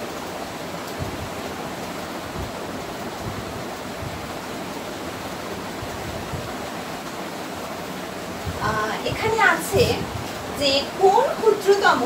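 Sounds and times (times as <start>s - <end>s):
rushing background hiss: 0.0s - 12.0s.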